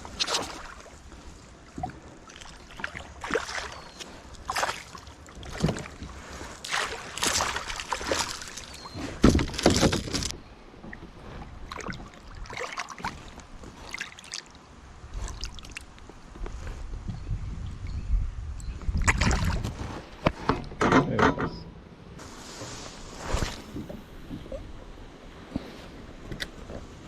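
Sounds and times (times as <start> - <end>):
water splashing around kayak: 0.0 - 16.9, 18.8 - 20.8, 22.2 - 27.0.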